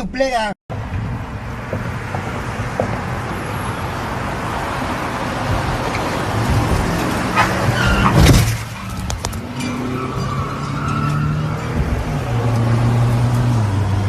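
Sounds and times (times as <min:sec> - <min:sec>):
vehicle and road noise: 0:00.0 - 0:14.0.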